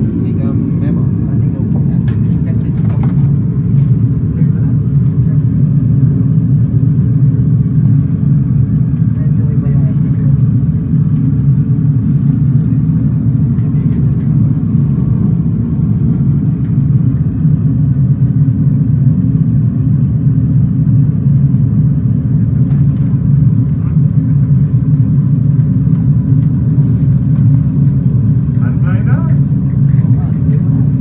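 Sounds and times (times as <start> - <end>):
simulated jet engine rumble: 0.0 - 31.0.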